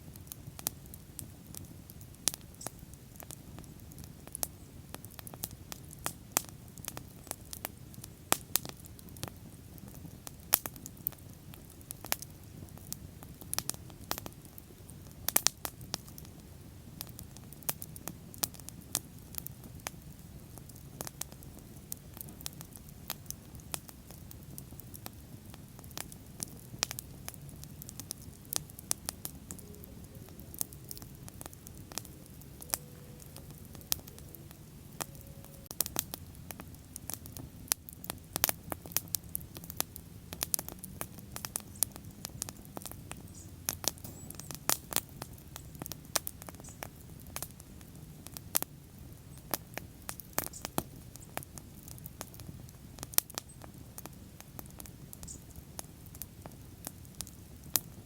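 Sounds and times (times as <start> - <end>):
bonfire crackling and popping: 0.0 - 58.0
bonfire flames rumbling: 0.0 - 58.0.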